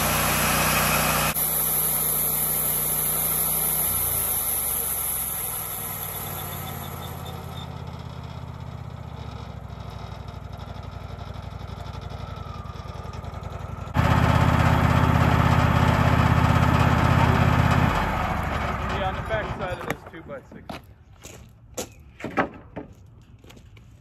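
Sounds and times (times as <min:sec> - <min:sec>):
sawmill engine running: 0:00.0 - 0:20.7.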